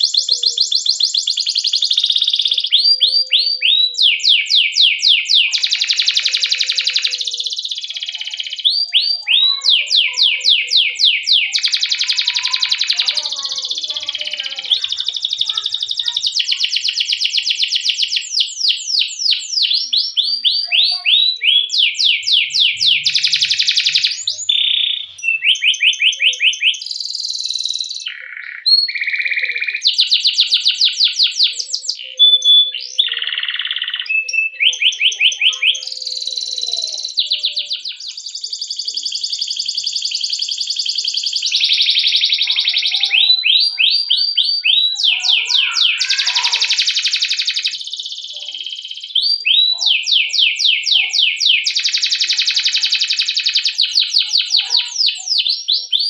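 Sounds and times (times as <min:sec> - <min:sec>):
canary singing rapid trills: 0:00.0 - 0:56.0.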